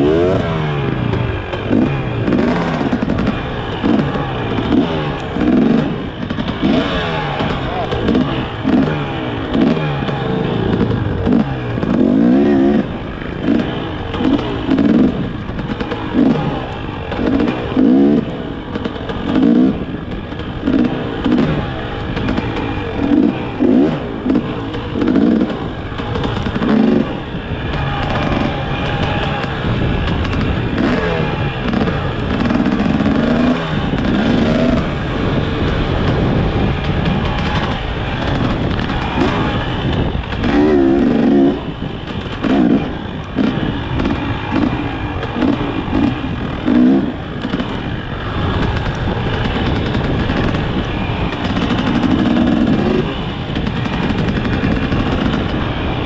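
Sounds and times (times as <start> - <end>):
dirt bike engine revving: 0.0 - 56.0
steady rush of noise: 0.0 - 56.0.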